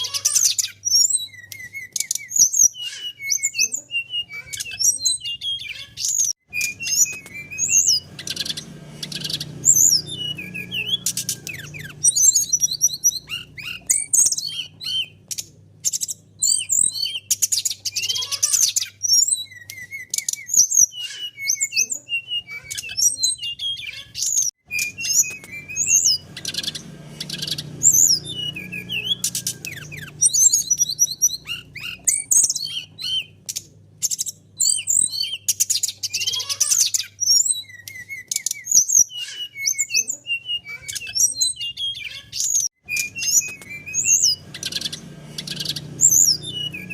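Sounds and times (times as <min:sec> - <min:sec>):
bird singing chirps and trills: 0:00.0 - 0:46.9.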